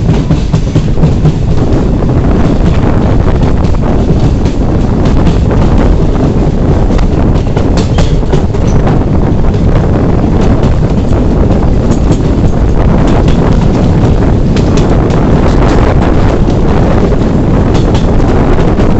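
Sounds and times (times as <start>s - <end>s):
train wheels rumbling on rail: 0.0s - 18.9s
wind buffeting microphone: 0.0s - 18.9s.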